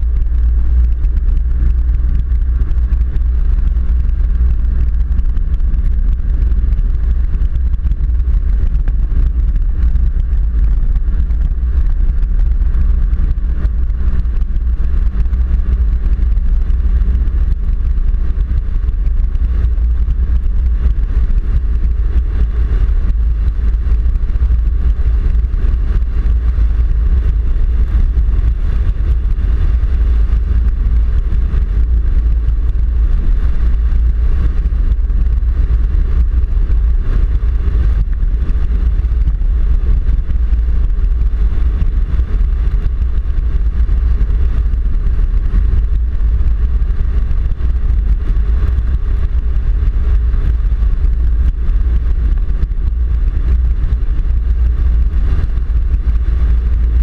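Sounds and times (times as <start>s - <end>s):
tyres rumbling on gravel road: 0.0s - 57.0s
wind: 0.0s - 57.0s.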